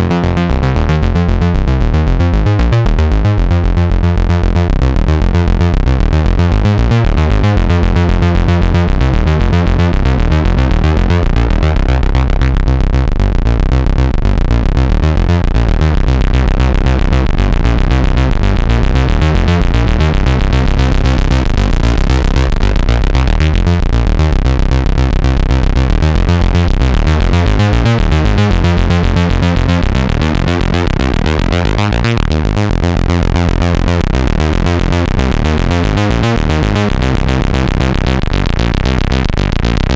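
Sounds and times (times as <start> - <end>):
synthesizer bass sequence: 0.0 - 39.9.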